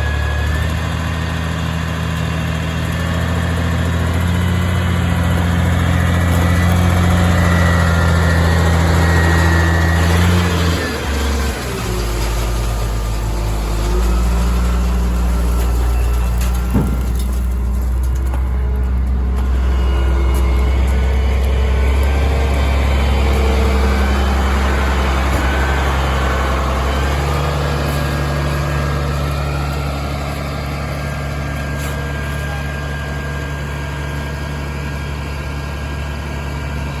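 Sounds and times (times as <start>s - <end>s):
truck engine running: 0.0s - 37.0s.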